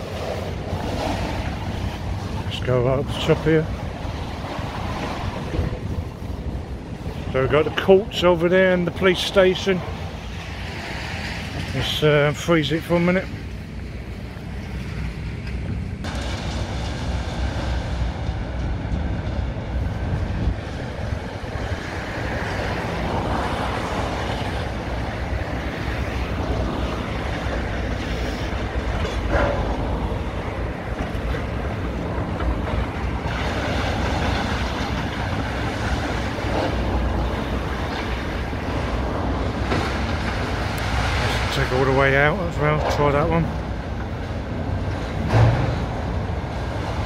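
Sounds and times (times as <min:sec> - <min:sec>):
diesel engines running: 0:00.0 - 0:47.0.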